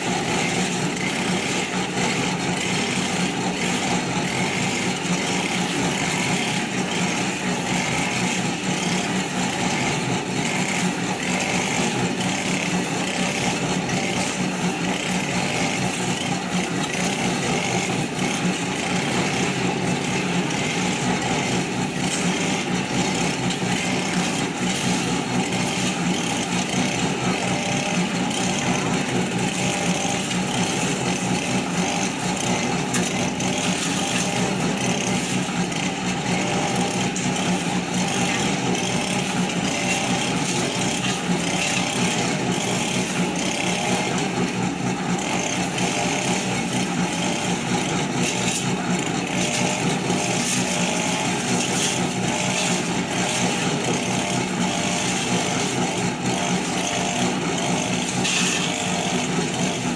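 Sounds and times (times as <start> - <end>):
concrete mixer engine running: 0.0 - 59.9.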